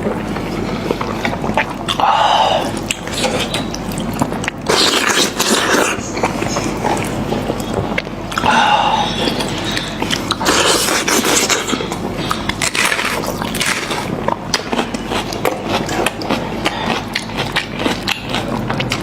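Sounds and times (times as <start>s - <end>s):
chewing and tearing meat: 0.0s - 19.0s.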